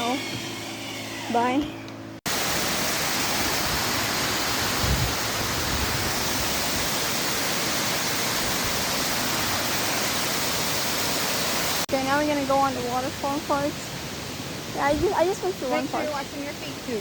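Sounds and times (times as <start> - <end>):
waterfall rushing: 2.3 - 17.0.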